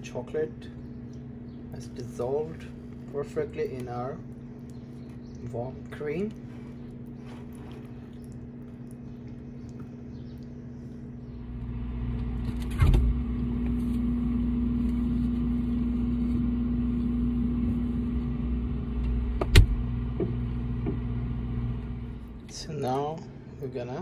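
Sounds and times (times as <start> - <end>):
refrigerator humming: 0.0 - 24.0.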